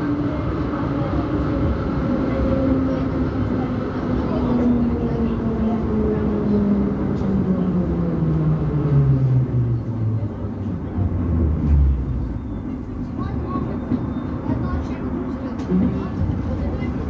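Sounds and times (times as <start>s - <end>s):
rumble of train running gear: 0.0s - 17.0s.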